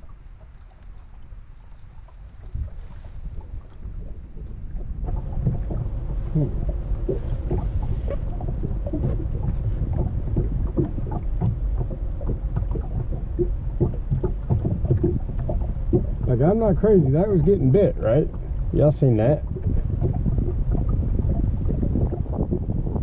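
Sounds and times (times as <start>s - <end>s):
steady low rumble: 0.0s - 23.0s
water slapping against boat hull: 0.0s - 23.0s.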